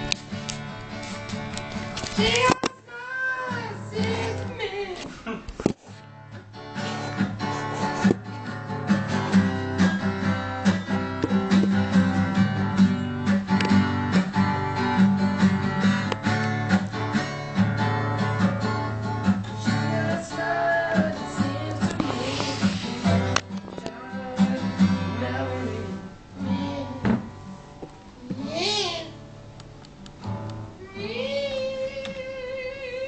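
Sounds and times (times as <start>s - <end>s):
guitar plucked and strummed: 0.0s - 5.0s, 5.7s - 33.0s.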